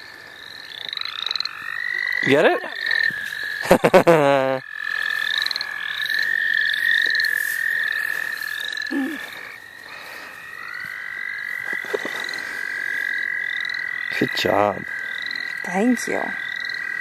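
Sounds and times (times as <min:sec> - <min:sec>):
frog chorus trill: 0:00.0 - 0:17.0
rising trilled frog calls: 0:00.0 - 0:17.0.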